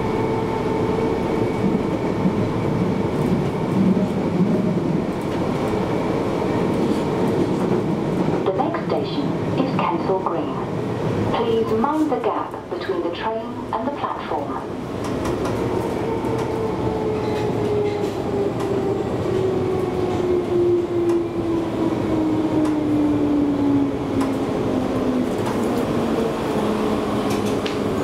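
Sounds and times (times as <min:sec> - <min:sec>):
train rumble with whine: 0:00.0 - 0:28.0.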